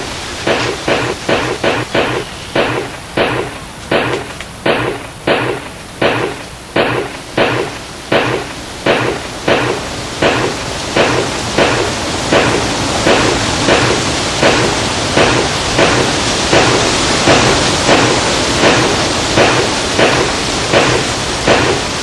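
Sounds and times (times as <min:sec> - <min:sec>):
dull chopping hits: 0:00.5 - 0:21.8.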